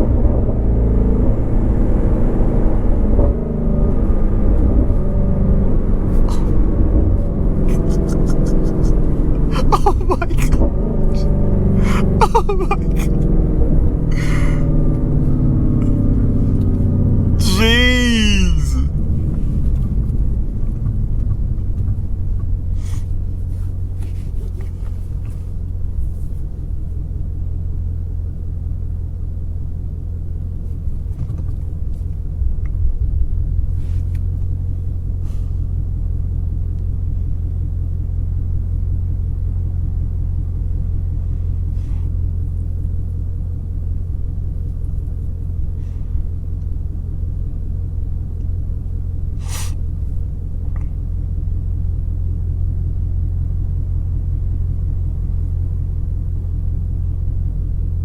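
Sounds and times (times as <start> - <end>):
car engine rumbling: 0.2 - 17.5, 18.2 - 58.0.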